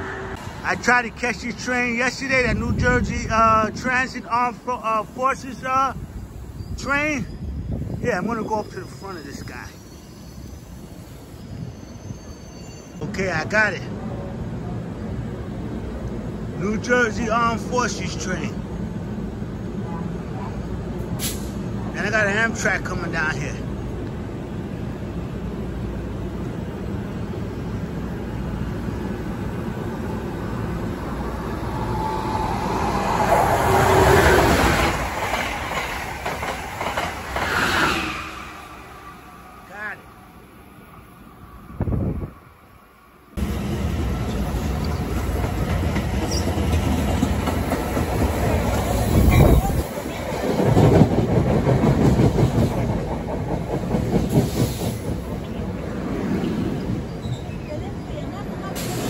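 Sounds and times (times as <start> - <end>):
passenger train rumbling past: 0.0 - 59.0.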